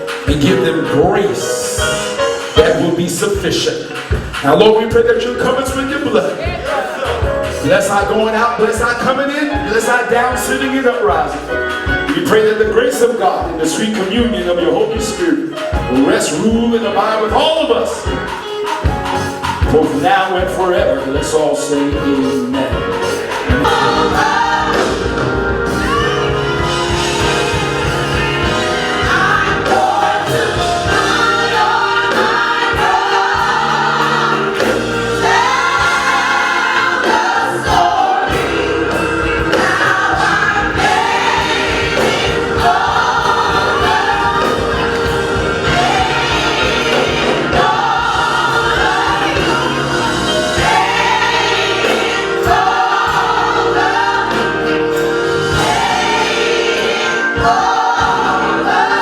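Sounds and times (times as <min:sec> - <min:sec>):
gospel choir singing: 0:00.0 - 0:59.0
instrumental backing with beat: 0:00.0 - 0:59.0.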